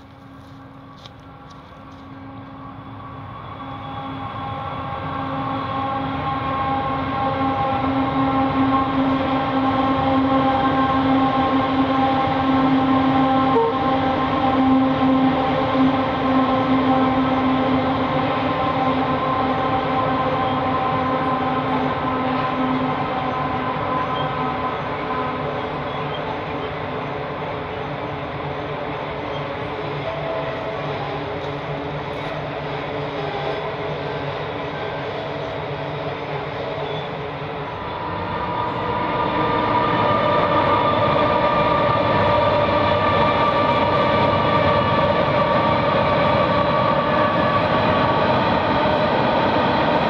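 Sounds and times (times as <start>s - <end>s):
diesel locomotive engine drone: 0.0s - 50.0s
wagons rumbling on rails: 0.0s - 50.0s.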